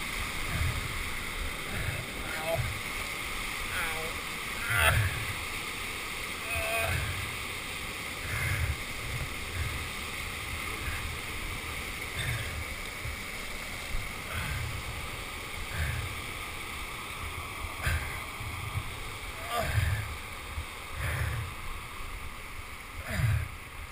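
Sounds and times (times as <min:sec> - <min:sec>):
whitewater rushing and churning: 0:00.0 - 0:23.9.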